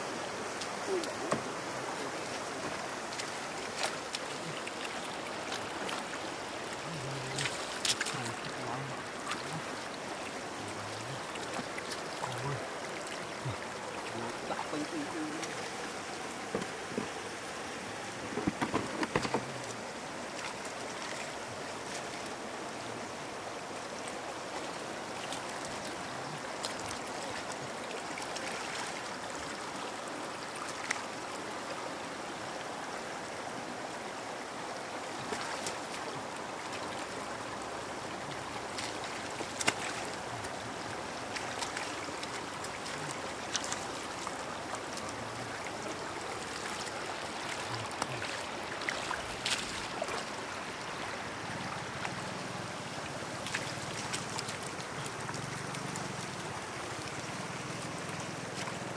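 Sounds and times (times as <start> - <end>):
shallow water running over ground: 0.0 - 58.9
water splashes: 0.0 - 58.9.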